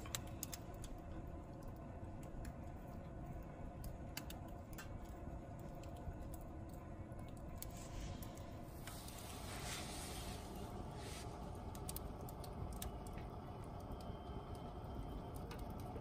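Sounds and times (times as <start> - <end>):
campfire crackling and popping: 0.0 - 9.4, 10.3 - 16.0
low steady rumble: 0.0 - 16.0.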